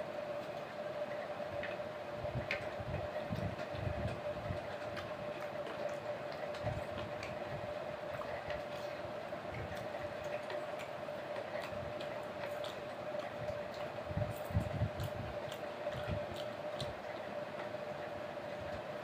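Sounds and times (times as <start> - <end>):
steady background hum: 0.0 - 19.0
chewing: 2.4 - 19.0.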